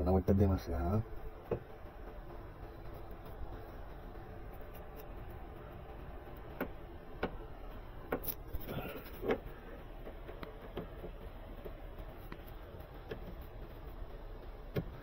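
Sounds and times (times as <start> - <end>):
faint steady hum: 0.0 - 15.0
sharp clicks and knocks: 1.0 - 15.0.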